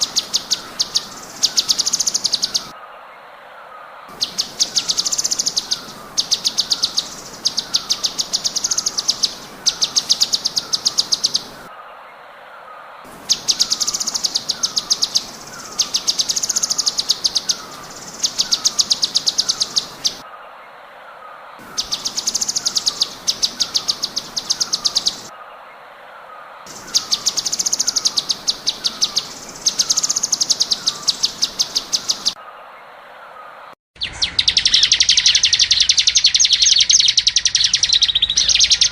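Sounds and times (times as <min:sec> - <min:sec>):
songbird high trilled song: 0:00.0 - 0:02.7, 0:04.2 - 0:11.7, 0:13.2 - 0:20.2, 0:21.6 - 0:25.3, 0:26.7 - 0:32.4, 0:34.0 - 0:38.9.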